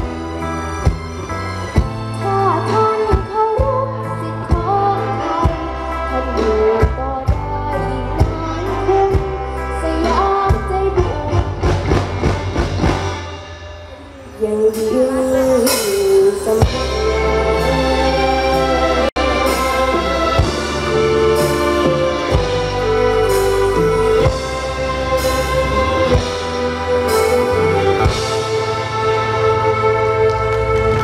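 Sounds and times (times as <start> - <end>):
band music: 0.0 - 31.0
person singing: 2.2 - 11.9, 13.9 - 30.8.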